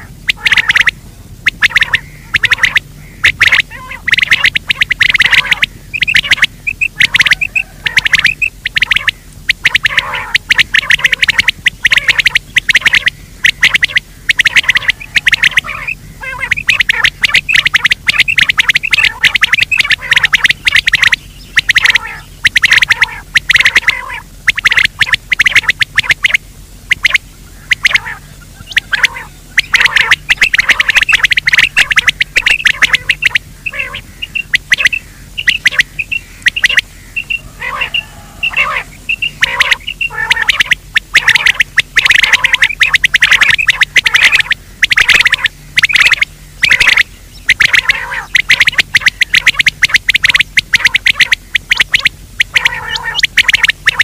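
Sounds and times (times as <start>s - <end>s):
harsh game bird calls: 0.0s - 54.0s
low electrical hum: 0.0s - 54.0s.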